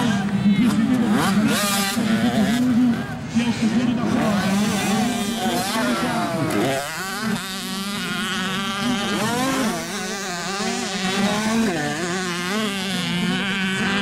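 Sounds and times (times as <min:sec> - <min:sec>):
two-stroke motocross engines revving: 0:00.0 - 0:14.0.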